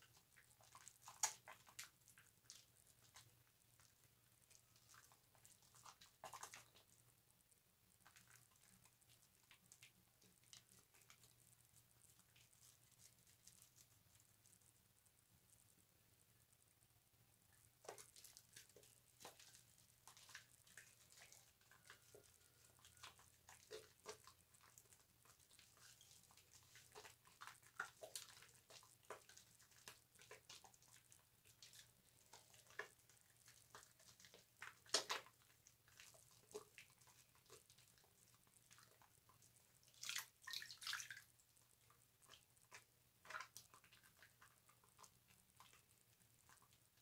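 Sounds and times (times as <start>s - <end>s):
soap lathering wet squishes: 0.0s - 14.8s, 17.5s - 47.0s.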